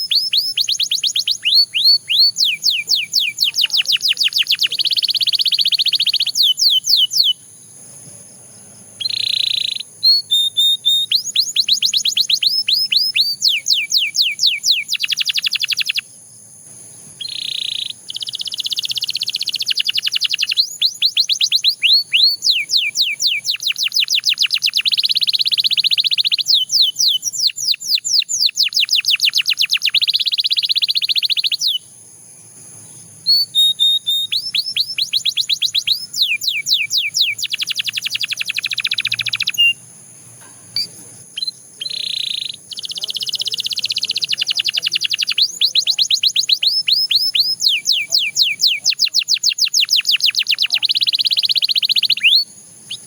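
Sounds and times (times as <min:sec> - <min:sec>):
canary singing: 0:00.0 - 0:16.2, 0:17.0 - 0:53.0.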